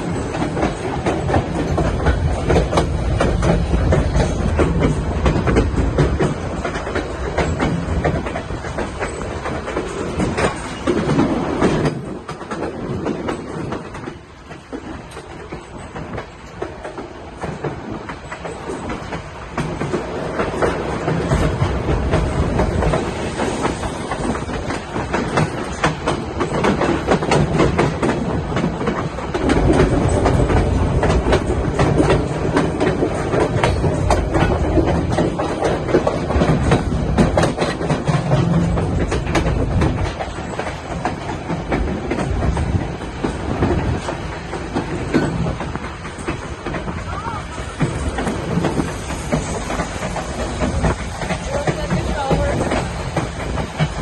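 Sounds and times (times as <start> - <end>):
rapid clicking of rails: 0.0 - 54.0
train wheels rumbling on rails: 0.0 - 54.0.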